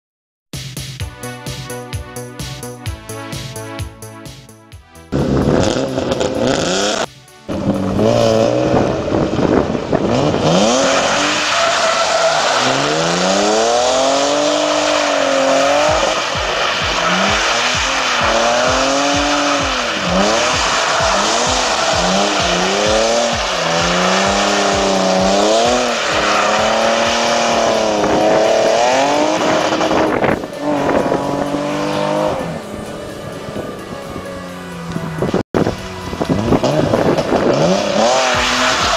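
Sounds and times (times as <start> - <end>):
car engine revving: 5.0 - 38.9.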